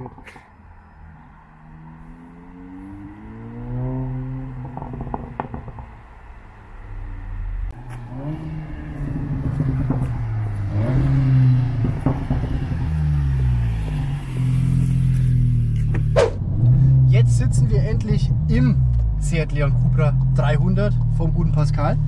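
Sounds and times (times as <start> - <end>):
car engine revving with gear changes: 0.0 - 22.0.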